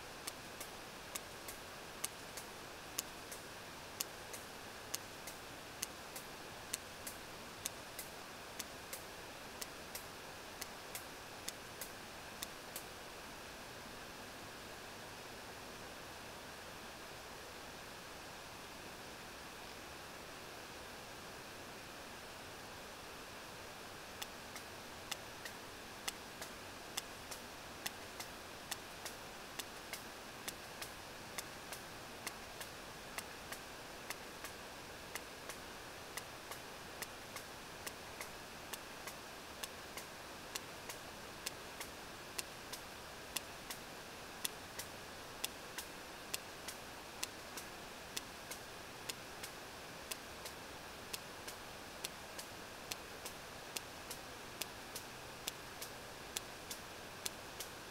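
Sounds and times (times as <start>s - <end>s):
hydrophone hiss: 0.0s - 57.9s.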